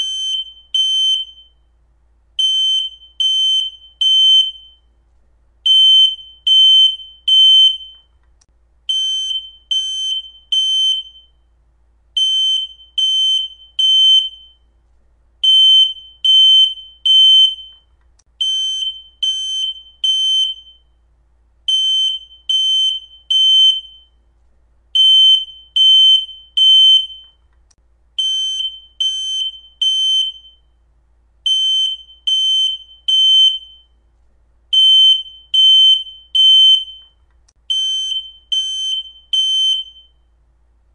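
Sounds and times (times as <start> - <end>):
smoke alarm beeping: 0.0 - 1.7, 2.4 - 5.0, 5.6 - 8.2, 8.9 - 11.5, 12.2 - 14.7, 15.4 - 21.0, 21.7 - 24.2, 25.0 - 27.5, 28.2 - 30.8, 31.5 - 34.0, 34.7 - 40.3.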